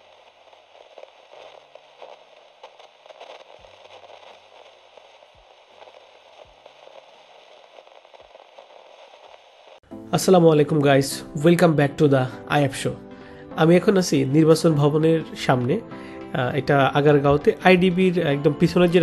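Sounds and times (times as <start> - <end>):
crackling static: 0.0 - 10.3, 12.7 - 19.0.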